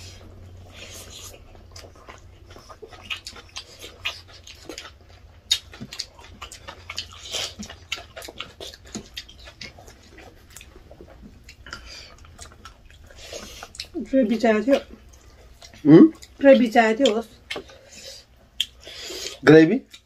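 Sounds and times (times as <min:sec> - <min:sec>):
wet chewing: 0:00.0 - 0:20.0.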